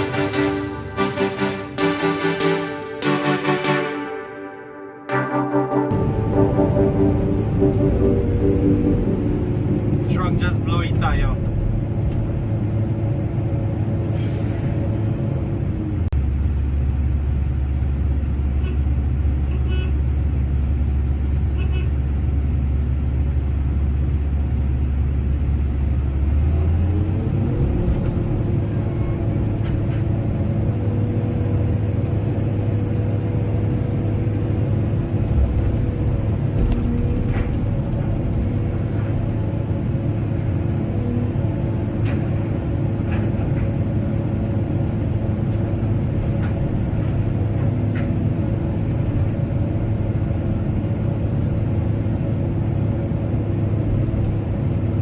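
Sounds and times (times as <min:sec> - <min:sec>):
excavator diesel engine running: 0:00.0 - 0:03.9, 0:05.9 - 0:55.0.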